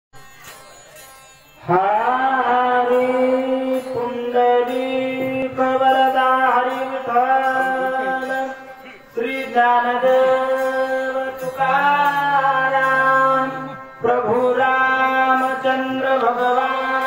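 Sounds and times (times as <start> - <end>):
man singing a long held note: 1.6 - 17.0.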